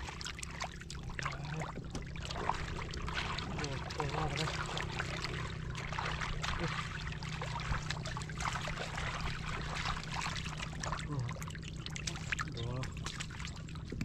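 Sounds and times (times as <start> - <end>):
muddy water splashing: 0.0 - 14.0
steady low rumble: 0.0 - 14.0.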